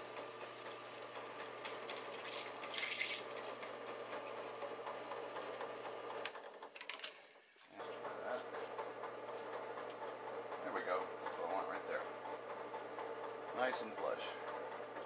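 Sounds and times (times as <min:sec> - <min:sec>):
drill press motor running: 0:00.0 - 0:06.8, 0:07.8 - 0:15.0.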